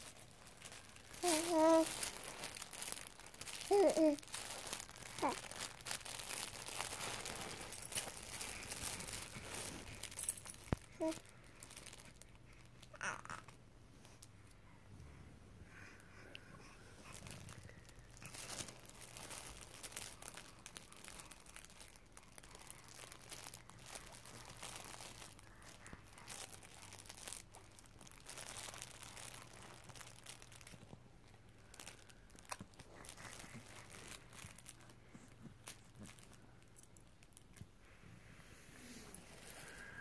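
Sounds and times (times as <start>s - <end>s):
fabric baby book crinkling: 0.0s - 14.3s, 15.8s - 38.0s, 38.8s - 40.0s.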